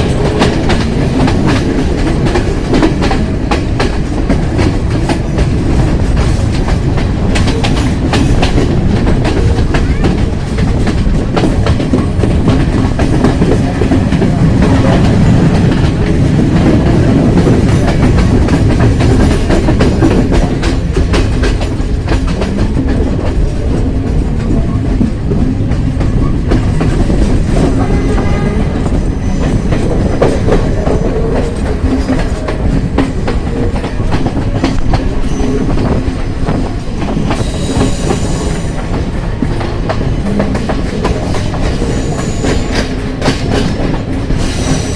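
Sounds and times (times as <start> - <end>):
train rumbling: 0.0 - 44.9
wheels clacking over rail joints: 0.0 - 44.9.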